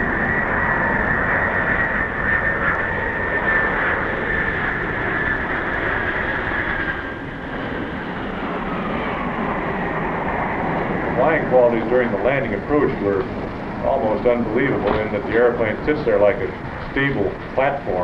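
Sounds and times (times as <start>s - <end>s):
jet engine rumble: 0.0s - 18.0s
jet engine whine: 0.0s - 18.0s.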